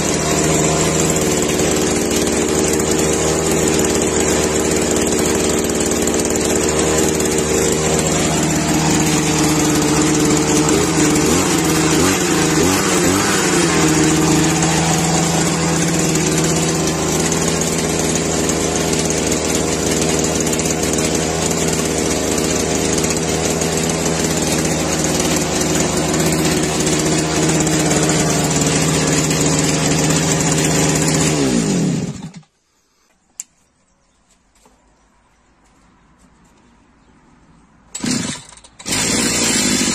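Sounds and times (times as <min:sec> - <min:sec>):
brush cutter engine running: 0:00.0 - 0:32.5, 0:38.0 - 0:39.9.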